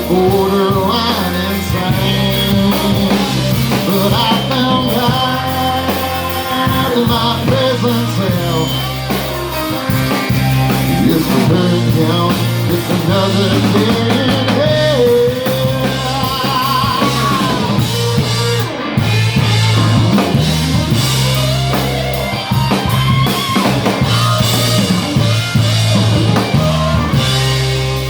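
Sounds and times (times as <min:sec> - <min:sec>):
country-rock band playing: 0:00.0 - 0:28.0
drum kit and bass: 0:00.0 - 0:28.0
lead guitar bending notes: 0:00.0 - 0:28.0.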